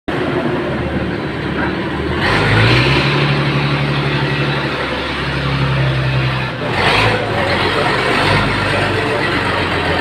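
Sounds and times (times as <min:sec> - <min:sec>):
sawmill engine running: 0:00.1 - 0:10.0.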